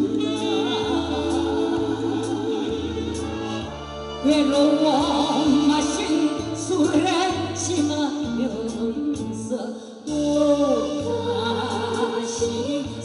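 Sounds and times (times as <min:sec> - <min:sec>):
woman singing into a microphone: 0:00.0 - 0:03.3, 0:04.2 - 0:13.0.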